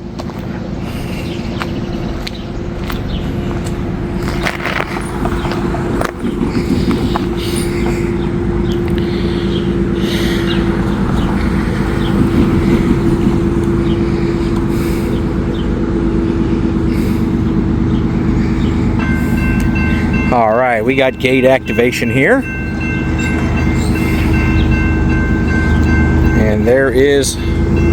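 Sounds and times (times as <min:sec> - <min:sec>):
diesel train rumble: 0:00.0 - 0:27.9.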